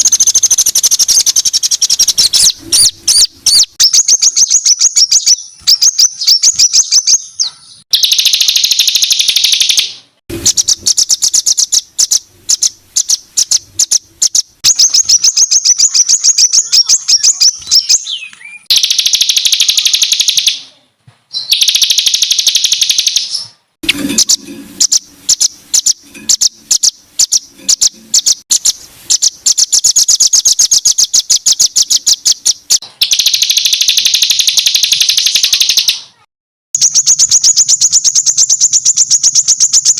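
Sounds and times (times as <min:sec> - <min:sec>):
songbird singing rapid harsh phrases: 0:00.0 - 0:39.9.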